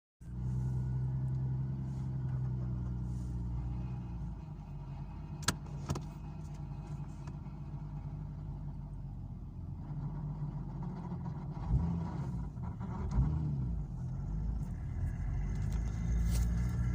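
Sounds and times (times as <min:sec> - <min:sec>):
car engine idling: 0:00.2 - 0:16.9.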